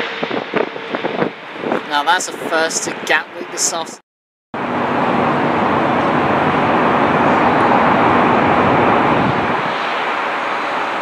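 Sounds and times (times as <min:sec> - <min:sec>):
jet airliner flying past: 0:00.0 - 0:04.0, 0:04.6 - 0:11.0.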